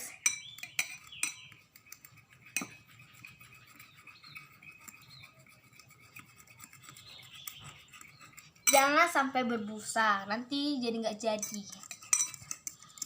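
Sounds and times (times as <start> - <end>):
fork scraping container: 0.0 - 13.0.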